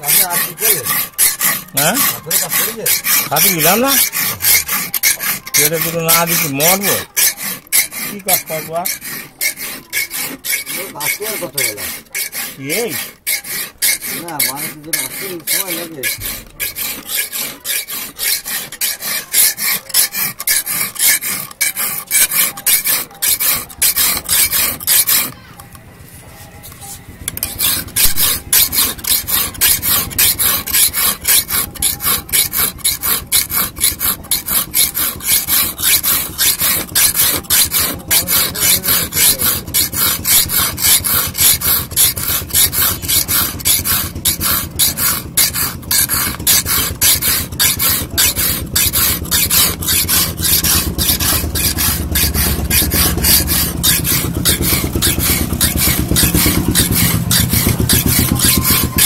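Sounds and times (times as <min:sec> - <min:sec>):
file scraping steel blade: 0:00.0 - 0:59.0.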